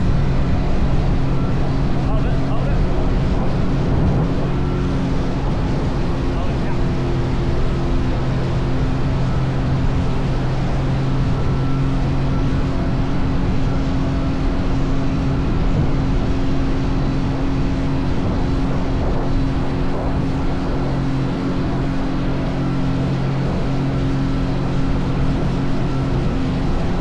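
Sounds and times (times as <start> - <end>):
jet ski engine running: 0.0 - 27.0.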